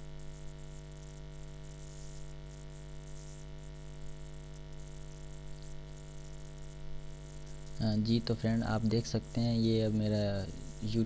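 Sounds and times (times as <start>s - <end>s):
electrical hum with hiss: 0.0s - 11.0s.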